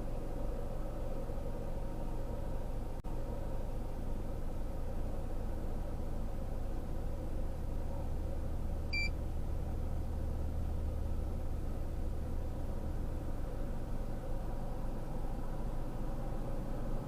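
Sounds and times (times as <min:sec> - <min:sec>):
vehicle idling rumble: 0:00.0 - 0:17.0.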